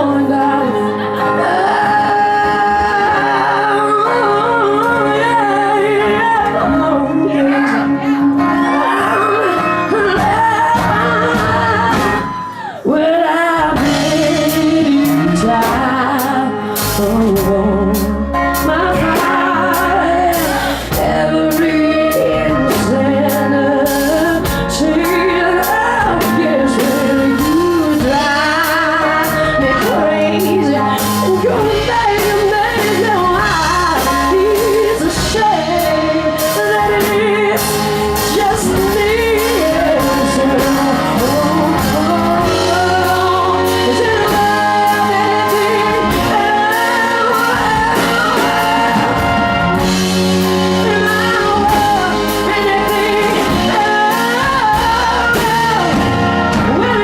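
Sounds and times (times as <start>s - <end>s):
live band playing loudly: 0.0s - 57.0s
woman singing: 0.0s - 57.0s.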